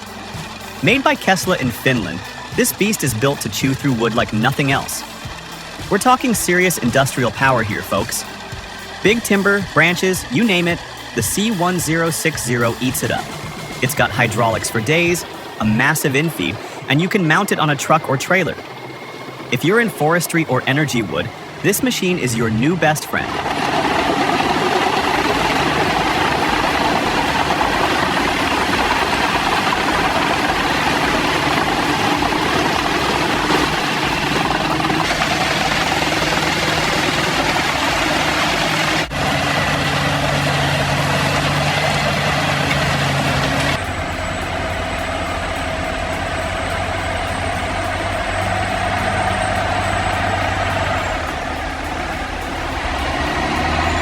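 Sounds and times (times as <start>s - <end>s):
heavy machinery engine running: 0.0s - 54.0s.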